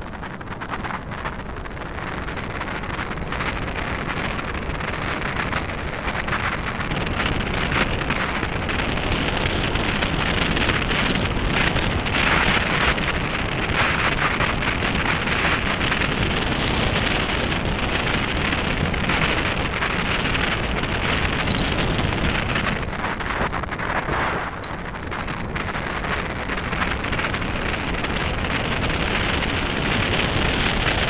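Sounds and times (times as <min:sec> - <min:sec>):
bike tyres rolling on gravel: 0:00.0 - 0:31.0
wind noise on microphone: 0:00.0 - 0:31.0.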